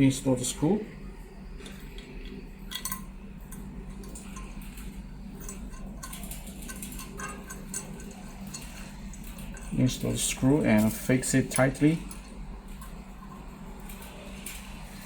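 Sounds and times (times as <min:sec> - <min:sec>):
metallic ticks and clicks: 0:01.9 - 0:14.7.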